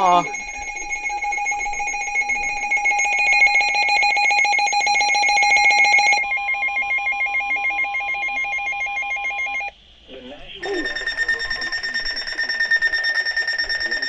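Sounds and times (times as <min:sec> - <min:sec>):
steady alert tone: 0:00.0 - 0:09.7, 0:10.6 - 0:14.0
warbling electronic alarm: 0:00.0 - 0:09.7, 0:10.6 - 0:14.0.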